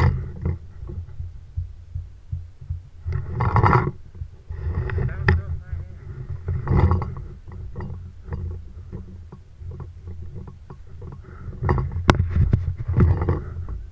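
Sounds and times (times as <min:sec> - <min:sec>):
gear handling rumble and knocks: 0:00.0 - 0:13.9.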